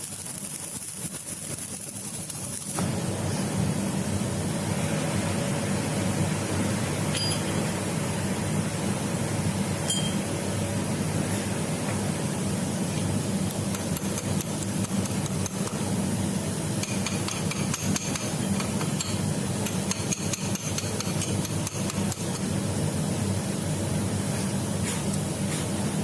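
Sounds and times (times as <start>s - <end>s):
steady low hum: 1.6s - 26.0s.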